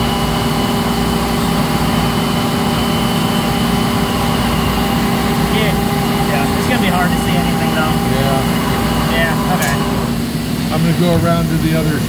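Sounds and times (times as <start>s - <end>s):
lathe mechanical hum: 0.0s - 12.0s
whining machine tones: 0.0s - 12.0s.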